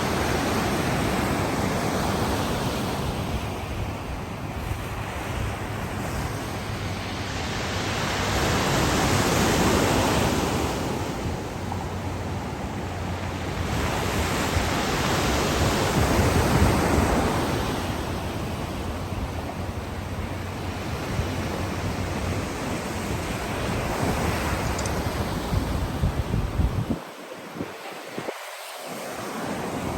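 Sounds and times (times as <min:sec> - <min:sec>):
surf hissing on shore: 0:00.0 - 0:29.9
waves breaking: 0:00.0 - 0:29.9.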